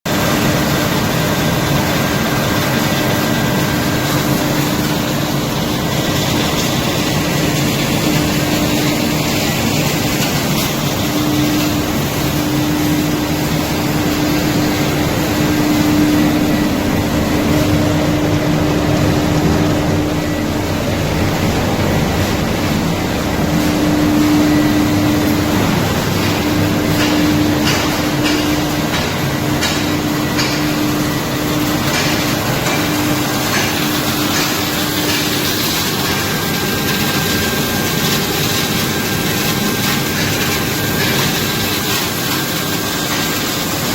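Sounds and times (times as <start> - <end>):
metal powder grinder running: 0.1 - 43.9
steady machine hum: 0.1 - 43.9.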